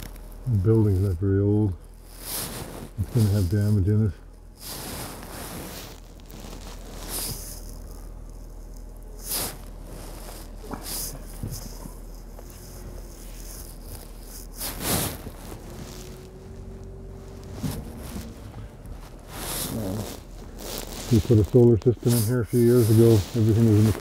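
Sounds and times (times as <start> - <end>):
vehicle low hum: 0.0 - 24.0
swishing rustles: 2.0 - 3.8, 4.5 - 24.0.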